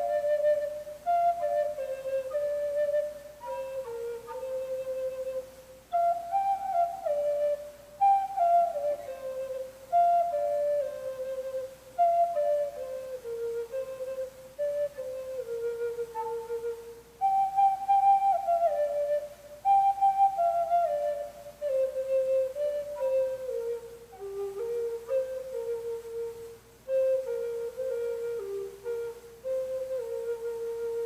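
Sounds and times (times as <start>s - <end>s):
flute playing slow melody: 0.0s - 31.0s.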